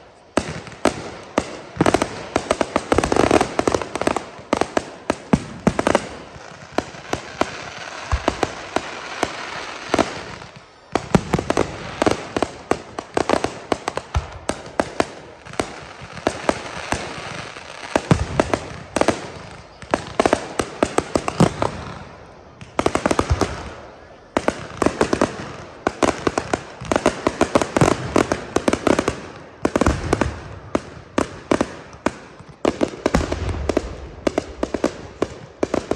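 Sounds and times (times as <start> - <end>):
fireworks bangs and crackling: 0.0 - 35.9
fireworks hiss: 0.0 - 35.9.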